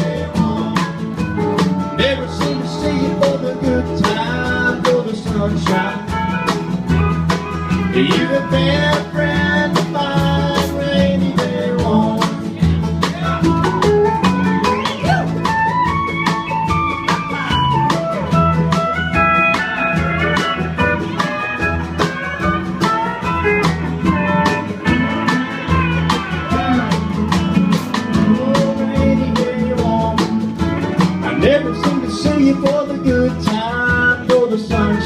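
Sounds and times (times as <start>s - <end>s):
country band instrumental: 0.0s - 35.0s
guitar: 0.0s - 35.0s
steady drum beat: 0.0s - 35.0s.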